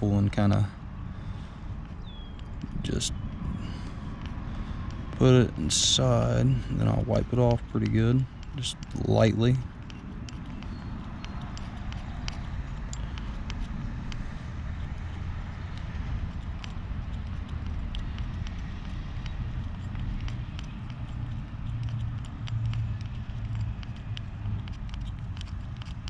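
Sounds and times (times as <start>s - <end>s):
low rumble with hum: 0.0s - 26.0s.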